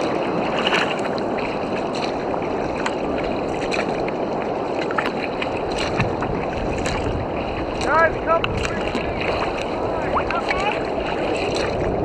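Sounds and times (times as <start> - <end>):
rushing water: 0.0 - 12.0
water splashing around kayak: 0.0 - 12.0.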